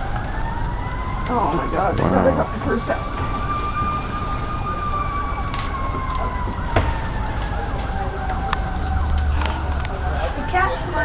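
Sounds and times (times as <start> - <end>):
fire crackling: 0.0 - 11.0
sharp pops from fire: 0.0 - 11.0
siren wailing: 0.0 - 11.0.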